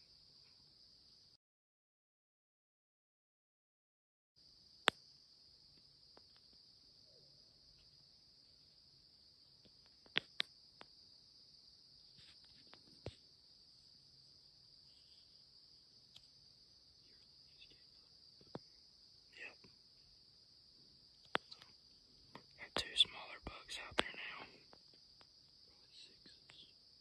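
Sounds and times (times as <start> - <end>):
insects chirring: 0.0 - 1.4, 4.4 - 27.0.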